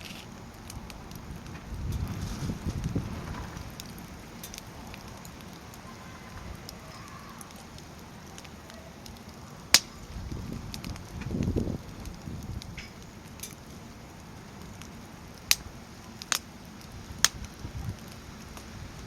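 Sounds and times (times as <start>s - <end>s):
low rumbling: 0.0s - 15.9s
fire popping: 0.0s - 19.0s
wood fire crackling: 0.0s - 19.0s.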